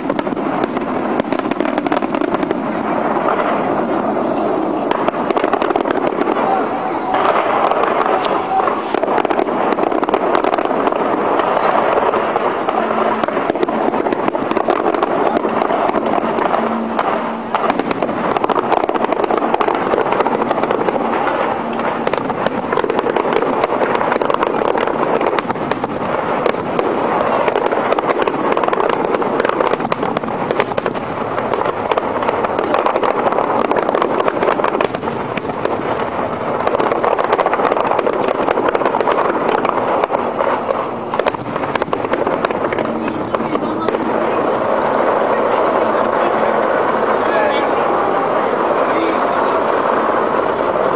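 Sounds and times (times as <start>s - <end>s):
fireworks crackling and popping: 0.0s - 50.9s.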